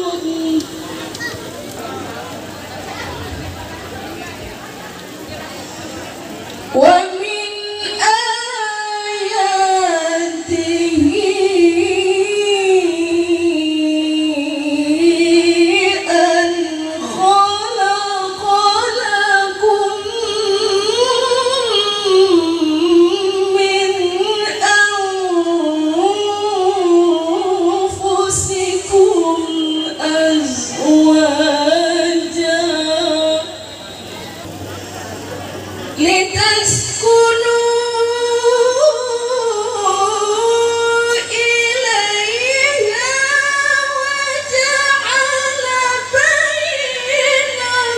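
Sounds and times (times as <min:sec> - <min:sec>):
woman chanting: 0:00.0 - 0:01.3, 0:02.6 - 0:34.4, 0:35.9 - 0:47.9.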